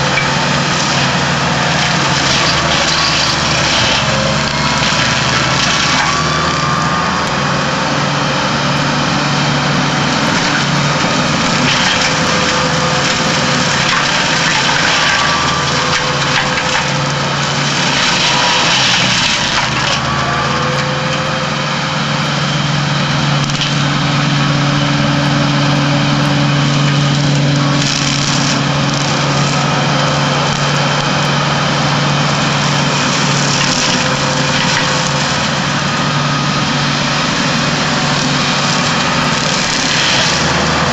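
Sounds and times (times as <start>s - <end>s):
mulcher shredding branches: 0.0s - 40.9s
tractor engine running: 0.0s - 40.9s.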